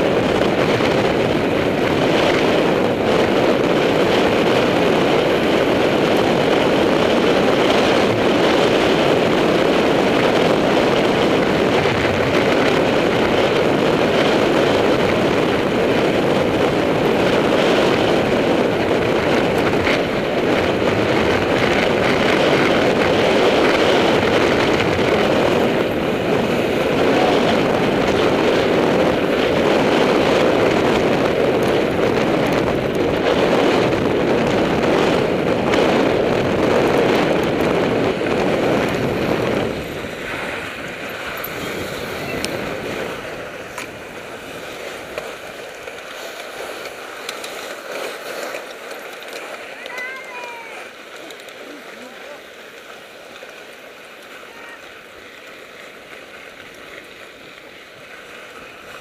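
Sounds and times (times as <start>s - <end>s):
bike tyres rolling on dirt: 0.0s - 59.0s
wind on microphone: 0.0s - 59.0s.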